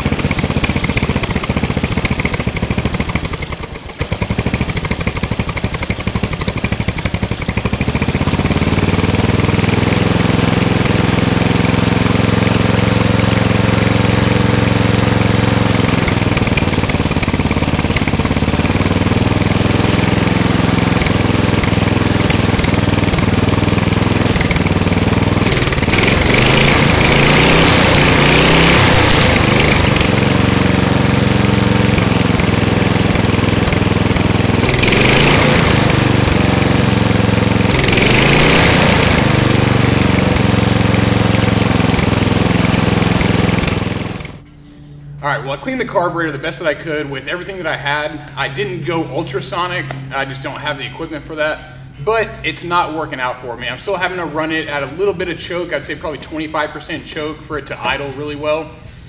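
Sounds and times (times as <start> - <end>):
riding lawn mower engine idling: 0.0 - 45.2, 56.2 - 59.0.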